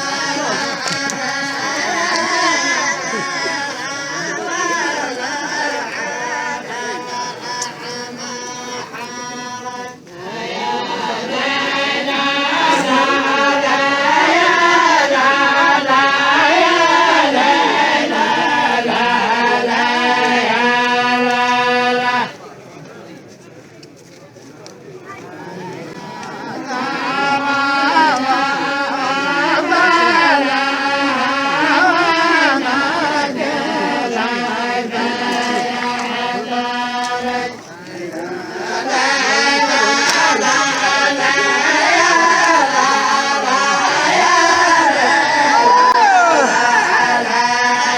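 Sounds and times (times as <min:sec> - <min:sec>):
group of voices chanting: 0:00.0 - 0:22.4, 0:25.2 - 0:47.9.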